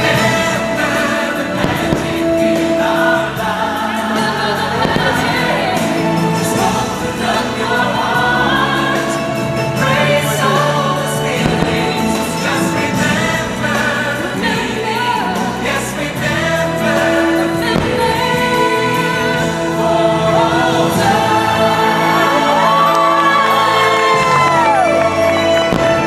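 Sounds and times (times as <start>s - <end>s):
choir singing with accompaniment: 0.0s - 26.0s.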